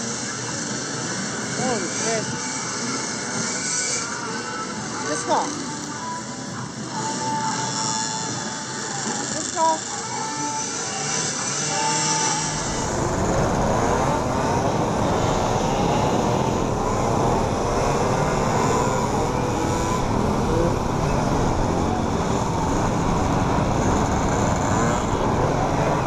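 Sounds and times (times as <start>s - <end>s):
many moped engines: 0.0s - 26.0s.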